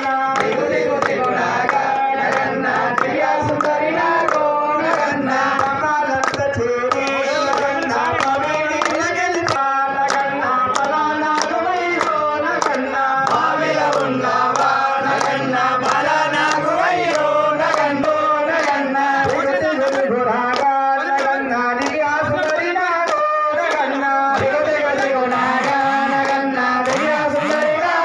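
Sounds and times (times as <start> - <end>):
hand claps: 0.0 - 28.0
men chanting in unison: 0.0 - 28.0.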